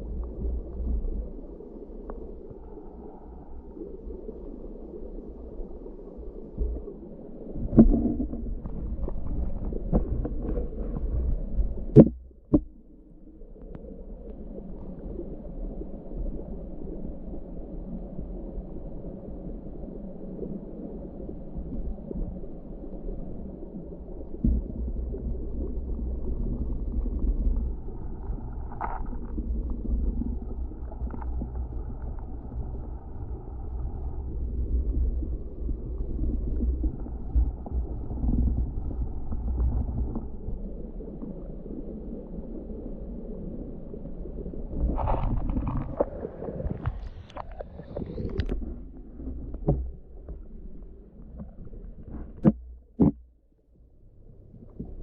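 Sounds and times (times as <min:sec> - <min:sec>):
stream water gurgling: 0:00.0 - 0:53.3.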